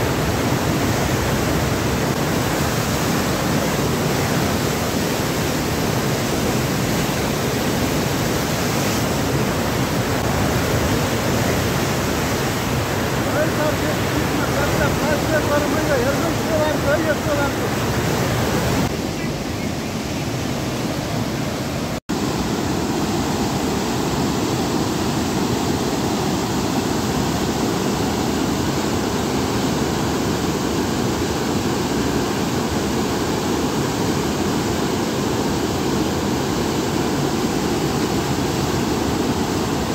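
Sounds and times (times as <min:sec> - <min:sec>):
river rushing through gorge: 0:00.0 - 0:39.9.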